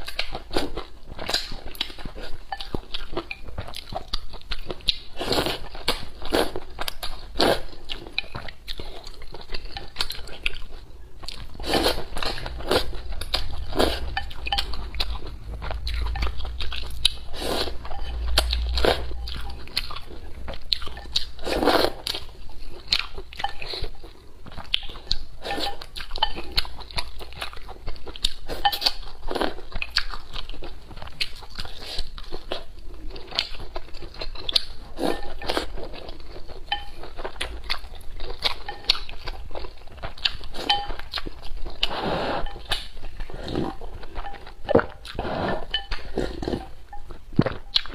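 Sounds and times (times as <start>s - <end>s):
noodles slurped and chewed: 0.0s - 47.9s.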